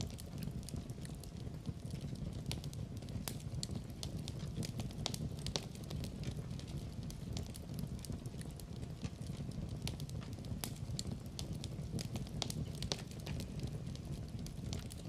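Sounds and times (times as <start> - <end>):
fireplace flames rumbling: 0.0 - 15.0
wood fire crackling and popping: 0.0 - 15.0.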